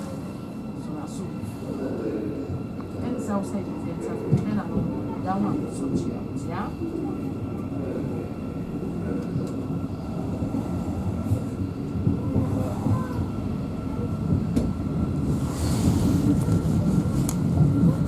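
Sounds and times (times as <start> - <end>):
train wheels rumbling: 2.4 - 18.0.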